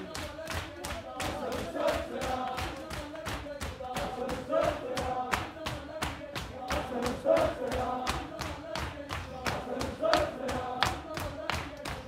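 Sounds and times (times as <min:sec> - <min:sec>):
hands slapping chests: 0:00.0 - 0:12.0
men chanting a lament: 0:00.0 - 0:12.0.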